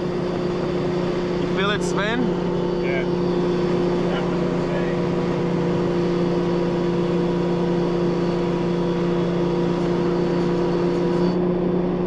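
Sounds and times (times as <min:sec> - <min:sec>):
car engine cruising steadily: 0:00.0 - 0:12.0
road and tyre noise: 0:00.0 - 0:12.0.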